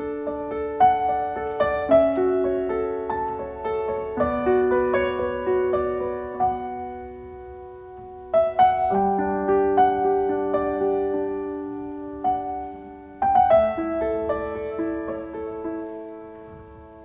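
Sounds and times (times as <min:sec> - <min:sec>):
piano playing classical piece: 0:00.0 - 0:17.0.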